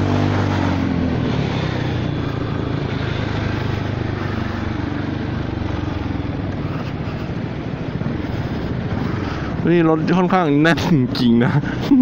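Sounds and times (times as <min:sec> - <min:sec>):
scooter engine running: 0:00.0 - 0:12.0
wind and road noise: 0:00.0 - 0:12.0.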